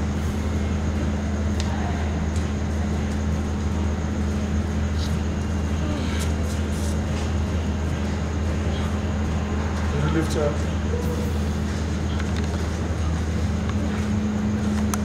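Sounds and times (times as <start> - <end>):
steady low drone: 0.0 - 15.0.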